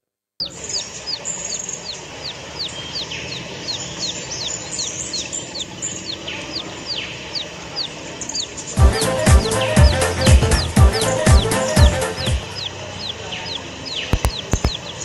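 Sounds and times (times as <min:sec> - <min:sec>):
bird chirping: 0:00.4 - 0:15.0.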